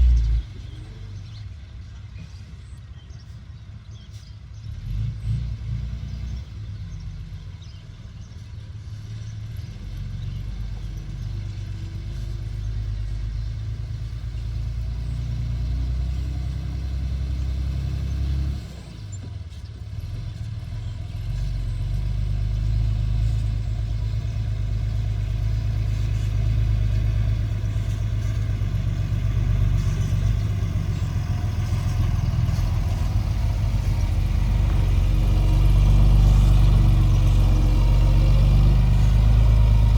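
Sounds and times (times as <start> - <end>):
excavator diesel engine rumble: 0.0 - 39.9.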